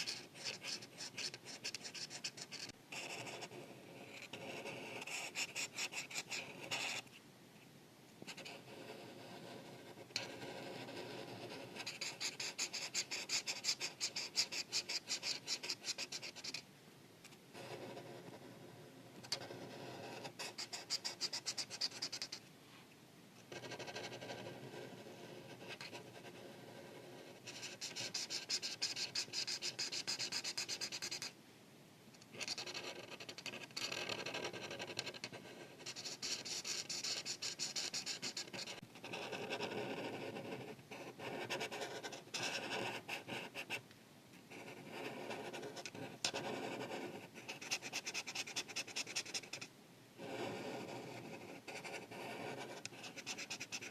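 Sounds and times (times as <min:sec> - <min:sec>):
marker scratching on paper: 0:00.0 - 0:07.1, 0:08.3 - 0:16.6, 0:19.3 - 0:22.4, 0:23.5 - 0:31.3, 0:32.3 - 0:43.8, 0:44.5 - 0:53.9.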